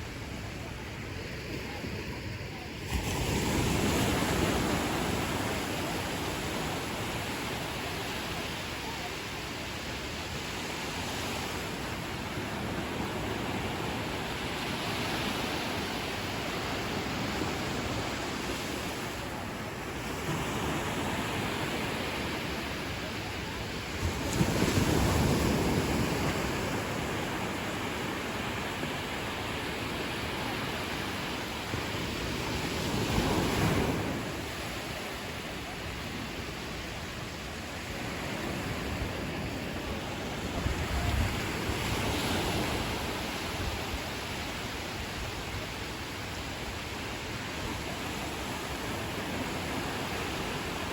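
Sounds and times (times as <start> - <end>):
ocean surf washing onto beach: 0.0 - 50.9.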